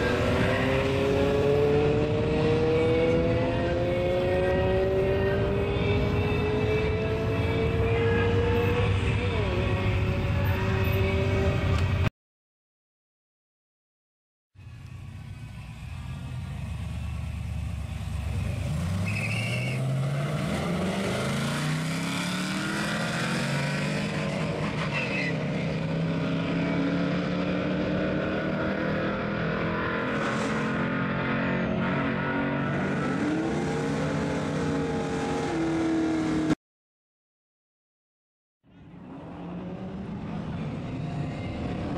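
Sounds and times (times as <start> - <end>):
engines accelerating hard: 0.0 - 12.1, 14.9 - 36.6, 38.8 - 41.9.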